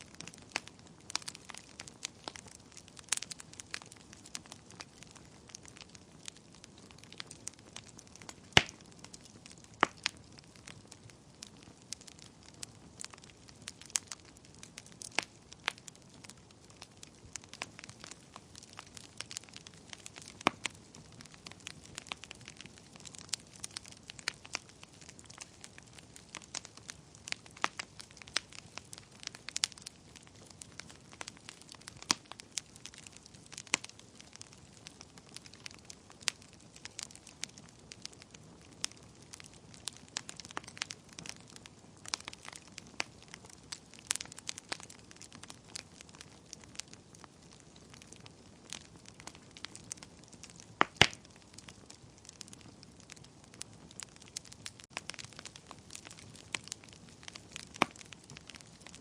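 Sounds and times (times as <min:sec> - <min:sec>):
fire crackles and pops: 0:00.0 - 0:59.0
wood fire hissing: 0:00.0 - 0:59.0.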